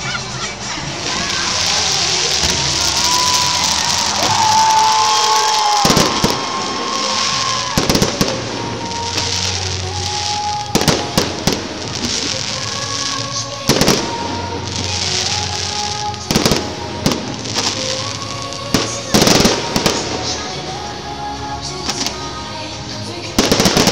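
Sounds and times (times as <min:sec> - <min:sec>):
fireworks bursting with bangs: 0:00.0 - 0:21.0, 0:21.7 - 0:23.9
steady high hiss: 0:00.0 - 0:23.9.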